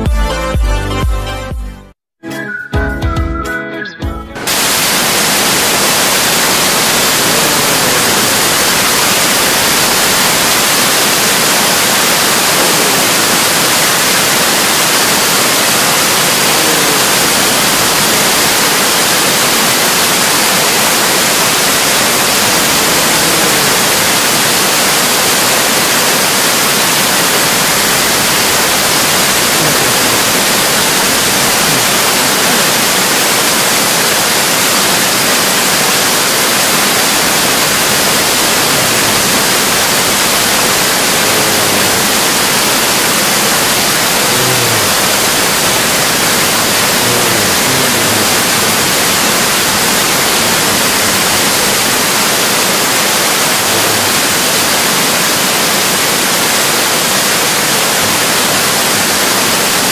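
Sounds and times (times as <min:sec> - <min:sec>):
steady hiss of noise: 0:04.4 - 0:59.9.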